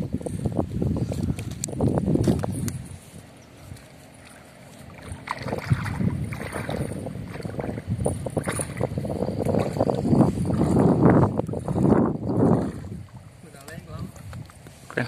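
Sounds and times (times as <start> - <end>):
water sloshing around legs: 1.0 - 15.0.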